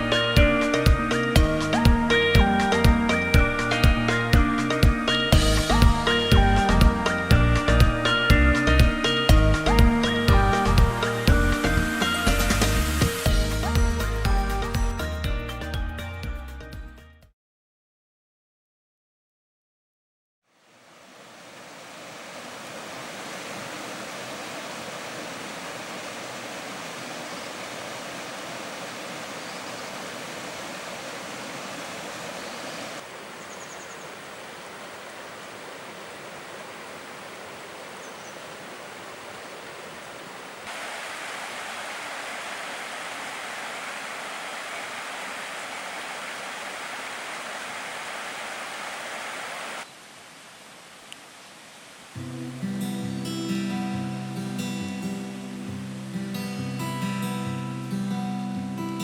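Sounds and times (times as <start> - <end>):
stream rushing: 0.0 - 14.4, 20.5 - 59.0.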